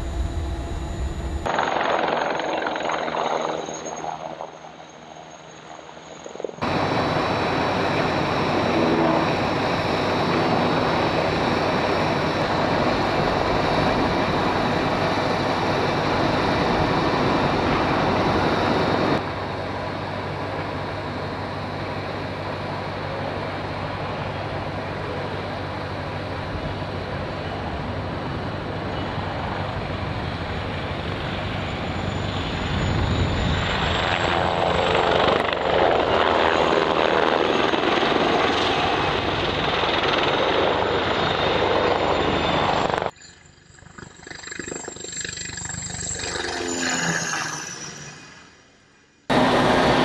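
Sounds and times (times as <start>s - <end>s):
helicopter flying low: 0.0s - 50.0s.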